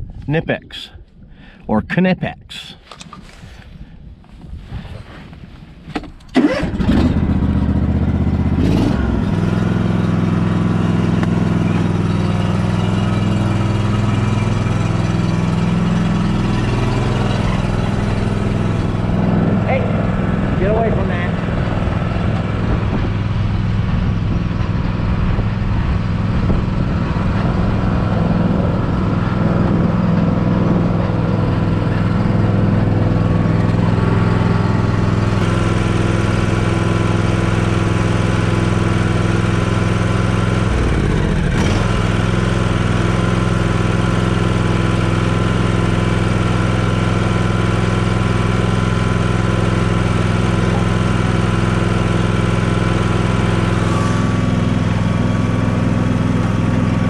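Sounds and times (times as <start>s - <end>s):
lawn tractor engine running: 6.2s - 57.0s.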